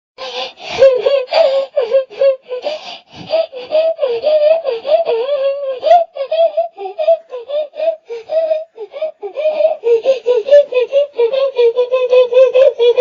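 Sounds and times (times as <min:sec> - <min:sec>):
person sobbing: 0:00.2 - 0:13.0.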